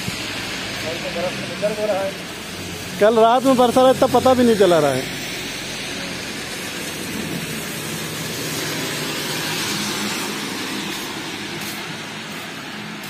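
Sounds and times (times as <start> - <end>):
tyres hissing on wet road: 0.0 - 13.0.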